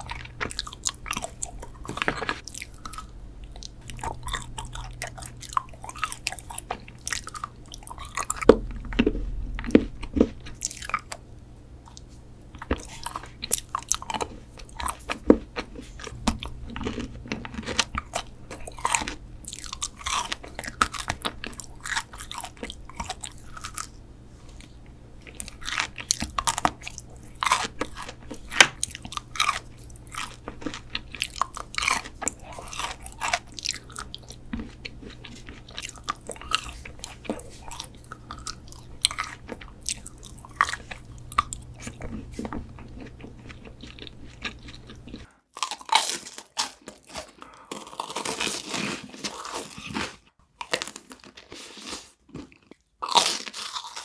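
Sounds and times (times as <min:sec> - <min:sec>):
faint low hum: 0:00.0 - 0:45.4
crunchy chewing: 0:00.0 - 0:54.0.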